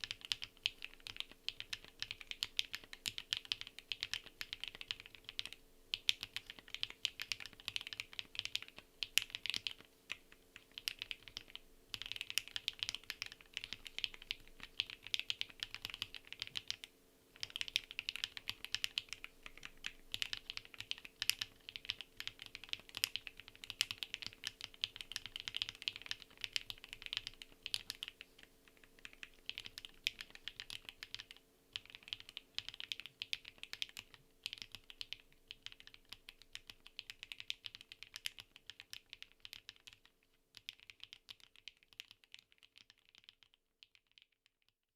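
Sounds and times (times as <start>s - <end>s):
fast typing on mechanical keyboard: 0.0s - 44.4s.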